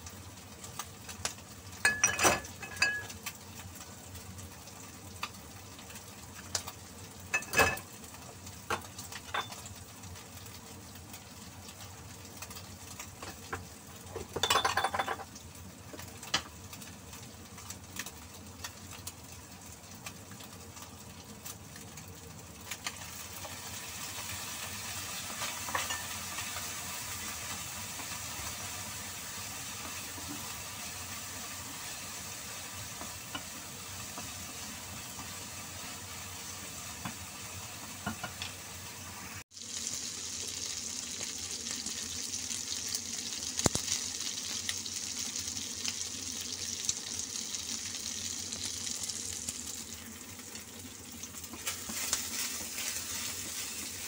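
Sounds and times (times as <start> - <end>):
meat sizzling in frying pan: 0.0 - 54.0.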